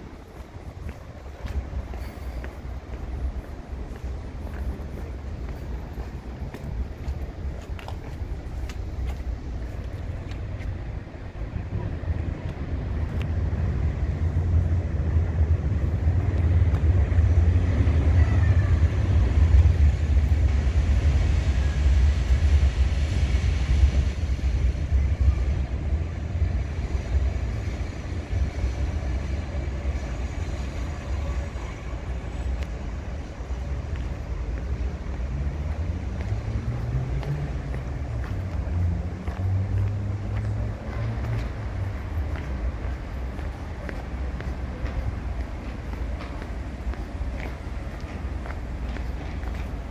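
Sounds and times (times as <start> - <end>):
low rumble of cars and buses: 0.0 - 49.9.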